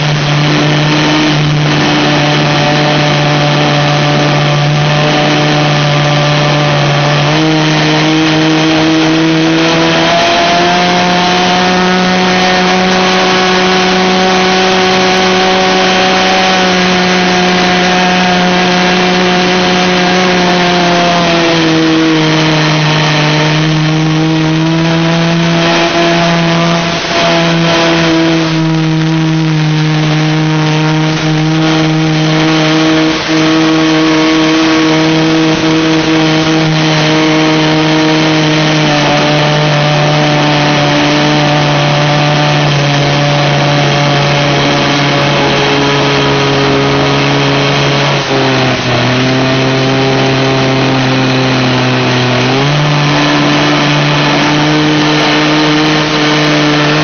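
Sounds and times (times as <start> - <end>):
model airplane engine running: 0.0 - 57.0.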